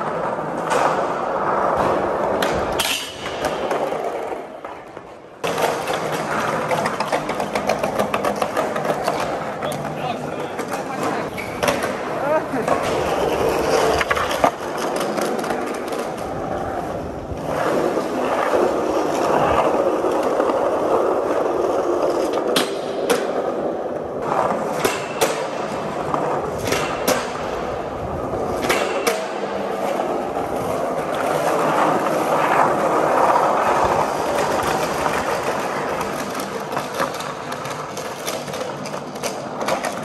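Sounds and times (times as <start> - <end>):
skateboard clacks: 0.0 - 40.0
skateboard wheels rolling on concrete: 0.0 - 40.0.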